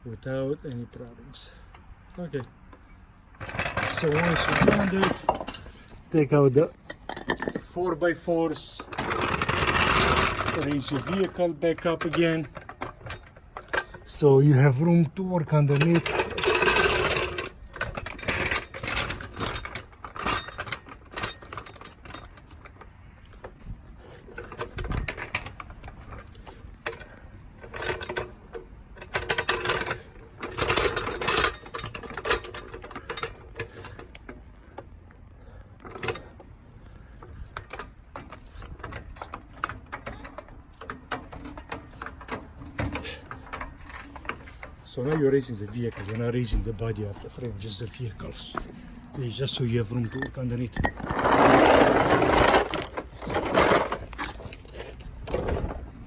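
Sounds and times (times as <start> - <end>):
vehicle jack clicking and clattering: 1.7 - 56.0.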